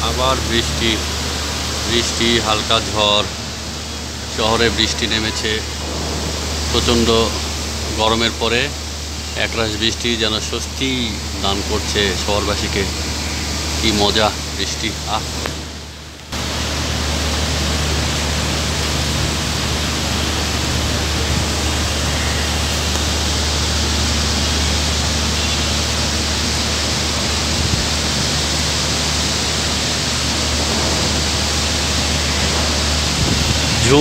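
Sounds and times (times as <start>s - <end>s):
heavy rain hiss: 0.0s - 34.0s
low steady rumble: 0.0s - 34.0s.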